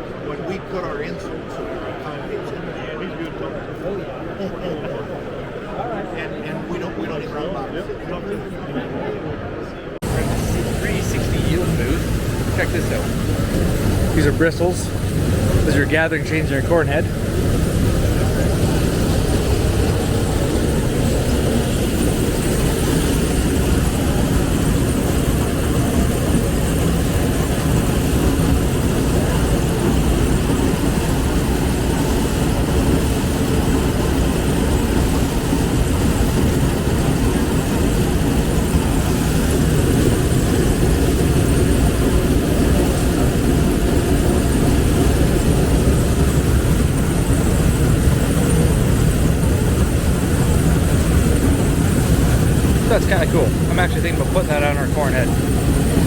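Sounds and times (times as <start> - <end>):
loud mechanical drone: 10.0 - 56.0.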